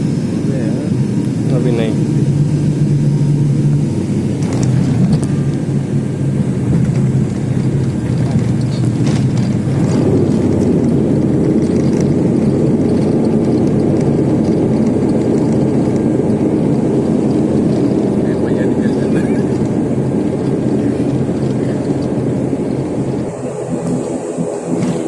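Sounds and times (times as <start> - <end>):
airliner engines rumbling: 0.0 - 25.0.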